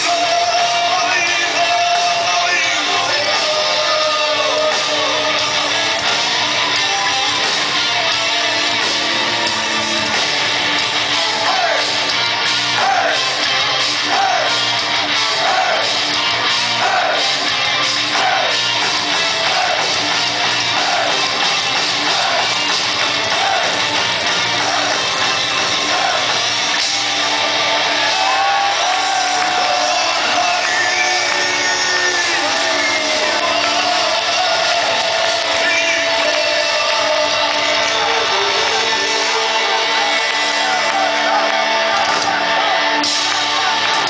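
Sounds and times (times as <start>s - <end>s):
heavy metal band playing live: 0.0s - 44.0s.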